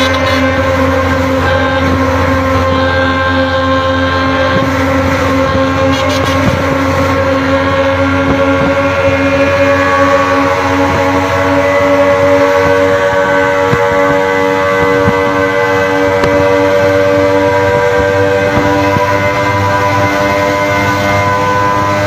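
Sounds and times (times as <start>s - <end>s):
two-stroke engine at high revs: 0.0s - 22.0s.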